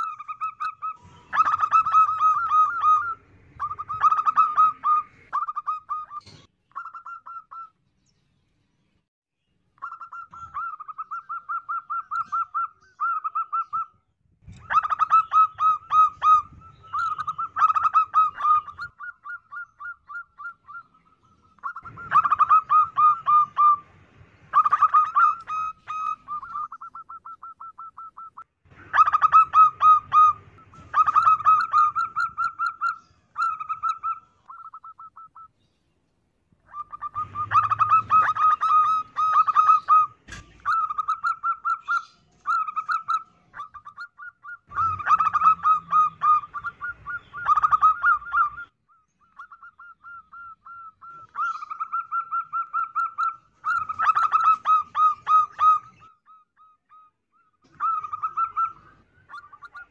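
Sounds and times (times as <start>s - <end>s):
dove cooing: 0.0s - 7.7s, 9.8s - 35.5s, 36.6s - 59.9s.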